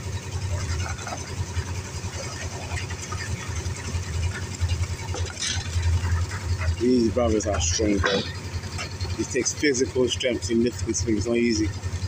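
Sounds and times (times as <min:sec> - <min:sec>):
engine idling with low throb: 0:00.0 - 0:12.0.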